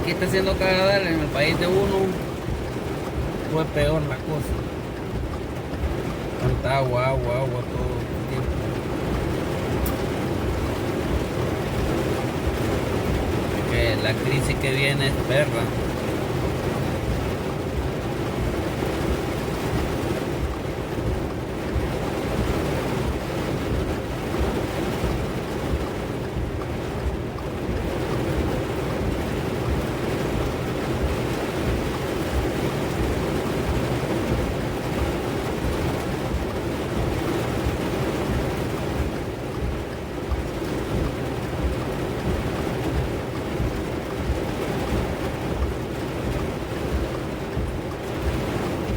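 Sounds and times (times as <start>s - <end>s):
wind buffeting microphone: 7.6s - 48.9s.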